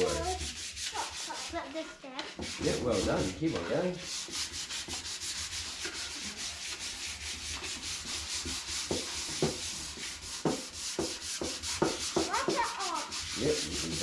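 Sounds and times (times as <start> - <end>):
sandpaper rubbing on wood: 0.0 - 14.0.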